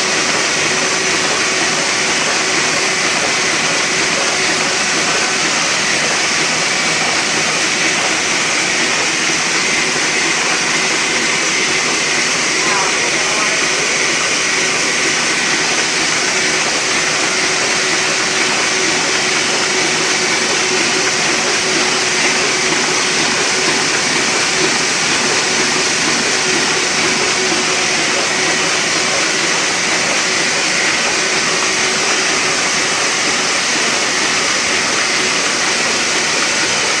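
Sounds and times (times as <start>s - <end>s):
printing press running: 0.0s - 37.0s.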